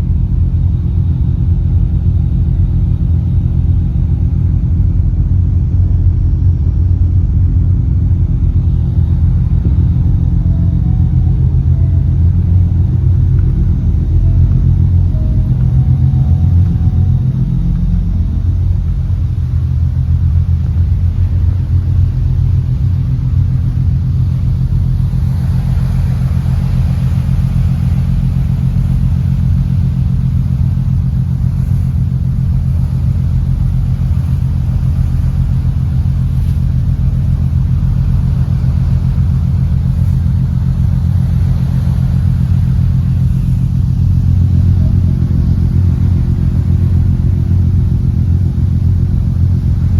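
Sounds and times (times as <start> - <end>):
engine running steadily: 0.0 - 49.9
rushing wind or water: 0.0 - 49.9.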